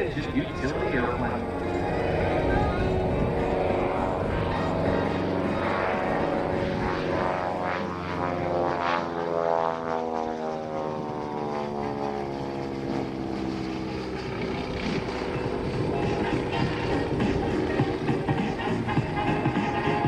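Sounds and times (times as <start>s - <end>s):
propeller plane engines passing: 0.0s - 20.0s.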